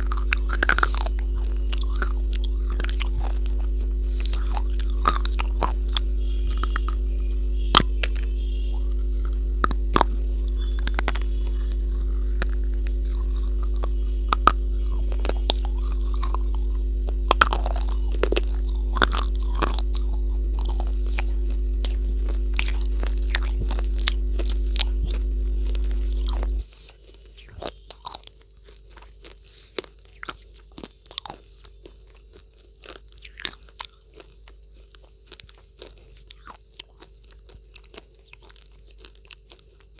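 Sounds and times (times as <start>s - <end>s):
crunching and chewing: 0.0s - 39.9s
low electrical hum: 0.0s - 39.9s.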